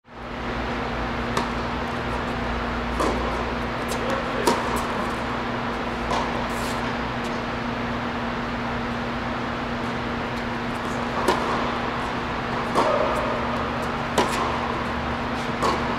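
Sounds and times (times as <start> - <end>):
steady low hum: 0.1 - 15.9.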